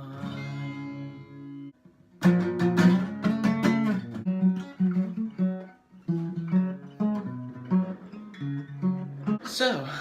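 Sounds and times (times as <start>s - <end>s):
acoustic guitar strumming chords: 0.0s - 9.7s.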